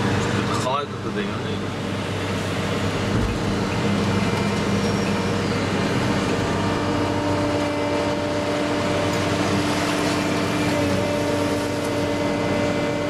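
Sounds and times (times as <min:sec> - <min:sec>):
crane diesel engine running: 0:00.0 - 0:13.0.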